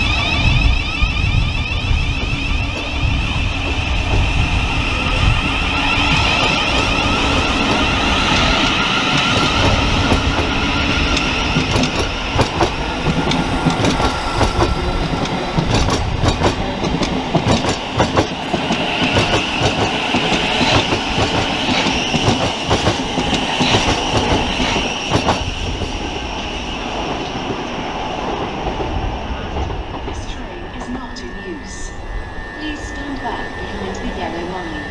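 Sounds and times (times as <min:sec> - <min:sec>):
train wheels clicking over rail joints: 0:00.0 - 0:31.1
electric train running: 0:00.0 - 0:34.9.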